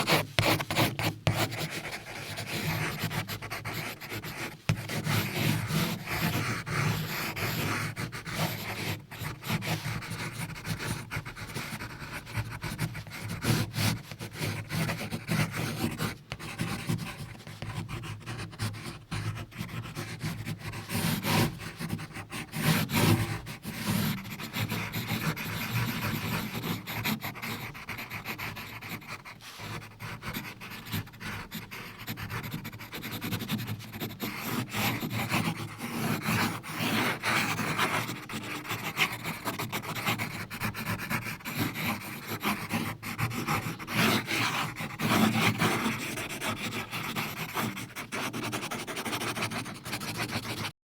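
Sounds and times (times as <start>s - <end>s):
pencil scratching on paper: 0.0s - 50.8s.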